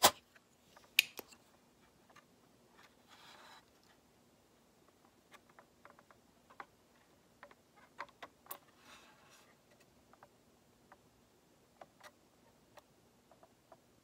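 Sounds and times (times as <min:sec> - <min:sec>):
soft hiss: 0:00.0 - 0:14.0.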